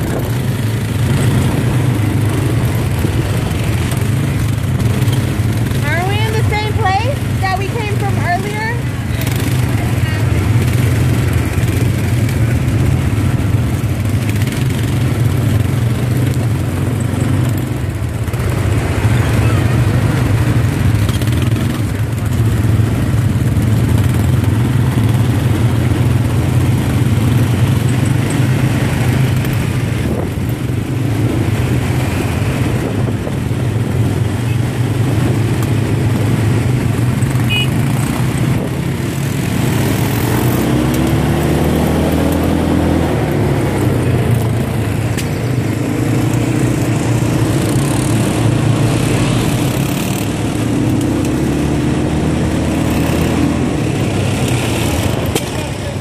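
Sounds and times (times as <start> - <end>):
quad bike engine running: 0.0 - 56.0
road noise: 0.0 - 56.0.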